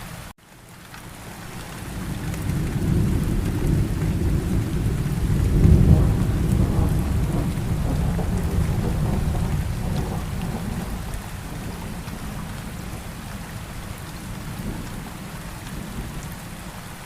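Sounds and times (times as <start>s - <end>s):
steady rain falling: 0.0s - 17.0s
rolling thunder rumble: 1.8s - 16.4s.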